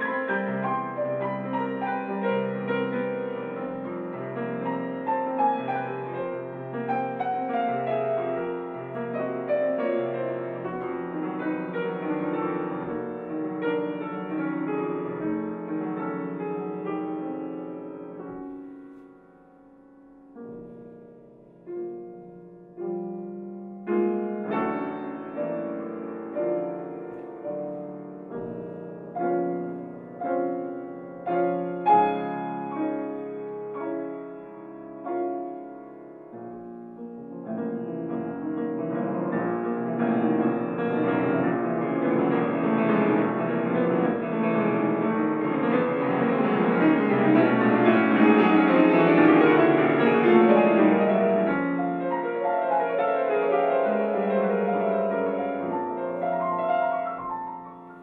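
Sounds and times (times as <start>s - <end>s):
solo classical piano: 0.0s - 58.0s.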